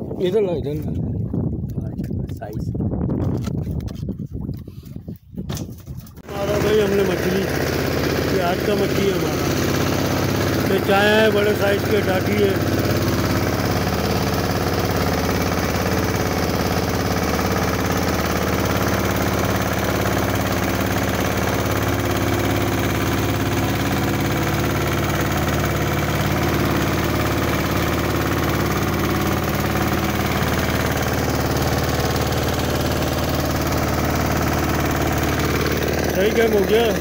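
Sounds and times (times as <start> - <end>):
boat engine running steadily: 0.0 - 37.0.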